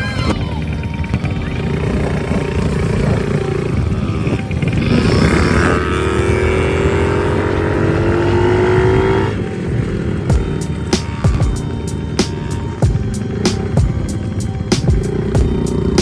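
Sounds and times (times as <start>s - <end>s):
dirt bike engine revving: 0.4s - 16.0s.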